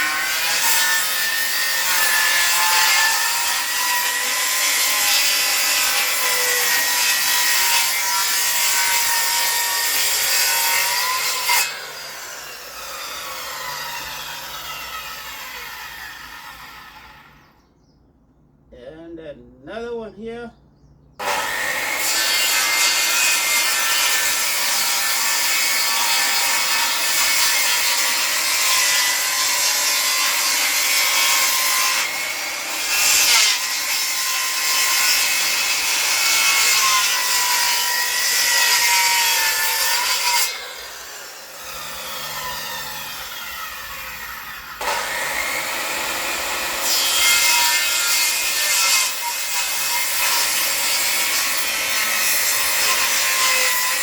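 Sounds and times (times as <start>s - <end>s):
circular saw cutting wood: 0.0s - 17.4s, 21.2s - 54.0s.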